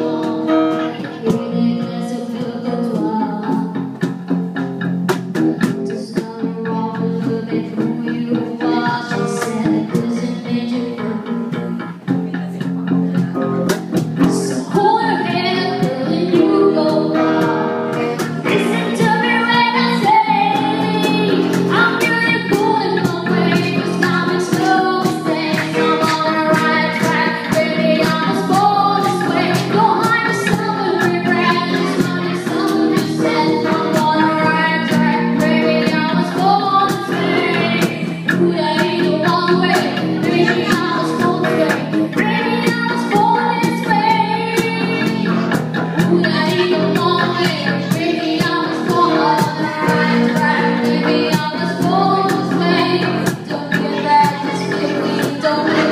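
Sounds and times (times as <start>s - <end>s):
woman singing: 0.0s - 3.9s, 5.6s - 11.5s, 14.2s - 55.9s
guitar: 0.0s - 55.9s
live band playing: 0.0s - 55.9s.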